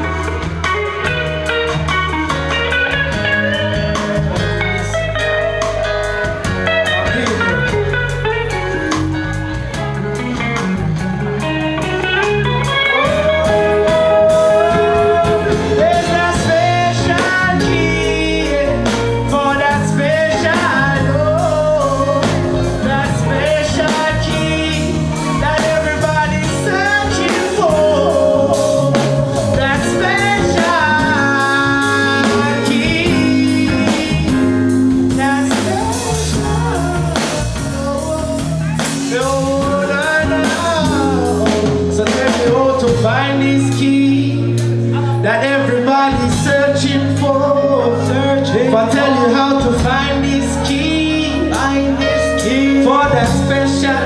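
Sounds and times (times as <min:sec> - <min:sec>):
live reggae band playing: 0:00.0 - 0:54.0.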